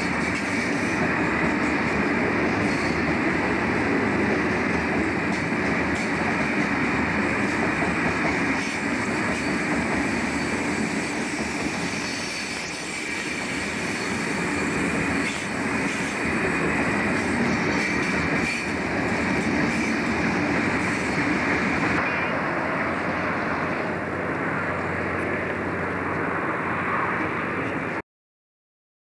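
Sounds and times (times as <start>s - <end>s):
train wagons rumbling and rattling: 0.0s - 28.0s.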